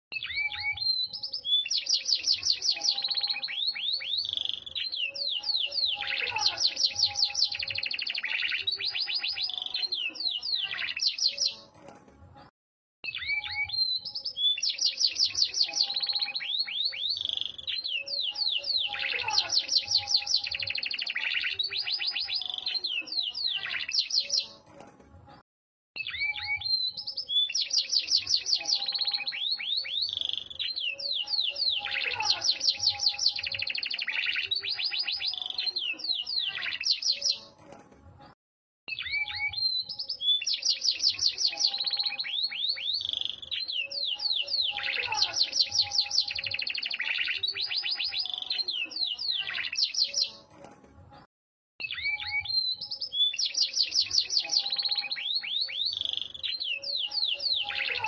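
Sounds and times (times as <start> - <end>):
canary singing trills and whistles: 0.1 - 11.7, 13.0 - 24.6, 26.0 - 37.5, 38.9 - 50.4, 51.8 - 58.0.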